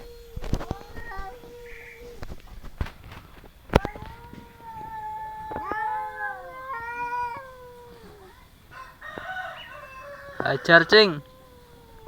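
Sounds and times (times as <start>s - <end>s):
cats yowling: 0.0s - 12.0s.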